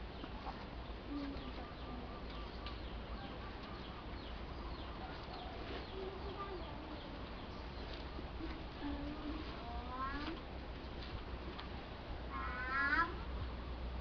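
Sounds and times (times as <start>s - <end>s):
birds chirping: 0.0s - 14.0s
faint steady hum: 0.0s - 14.0s.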